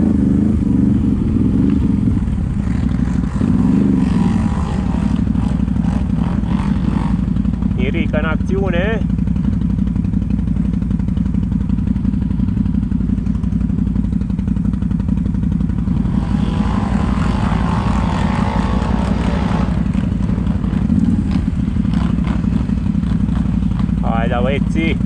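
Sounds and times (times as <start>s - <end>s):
atv engine running: 0.0s - 25.0s
rougher noisier engine sound: 0.0s - 25.0s.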